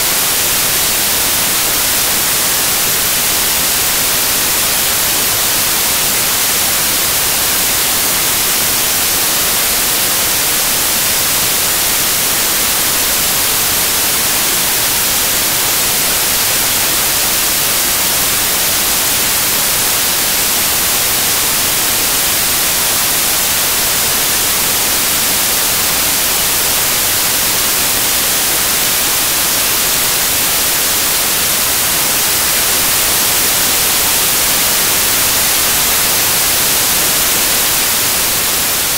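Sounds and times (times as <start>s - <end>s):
white noise static hiss: 0.0s - 38.9s.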